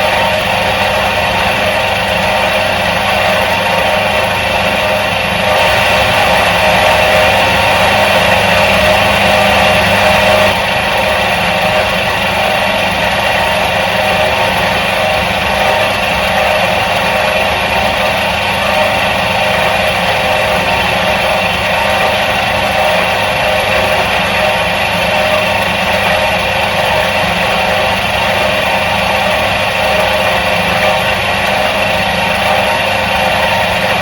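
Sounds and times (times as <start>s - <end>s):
washing machine motor humming: 0.0s - 34.0s.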